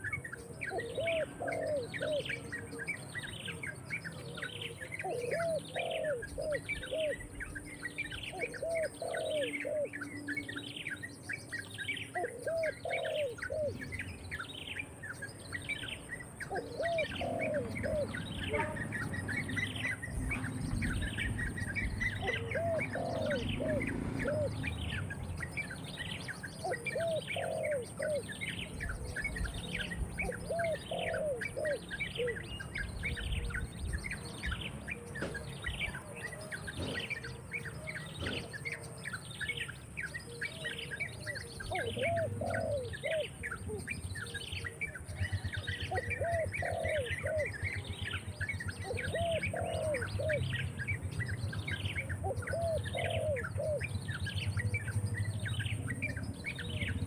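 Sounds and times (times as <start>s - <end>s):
high downward-sweeping bird chirps: 0.0s - 57.0s.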